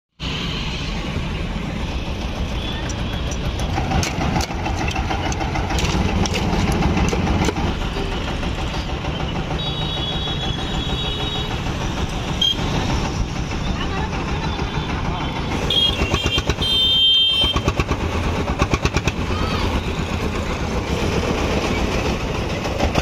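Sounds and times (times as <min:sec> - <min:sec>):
engine running steadily: 0:00.9 - 0:23.0.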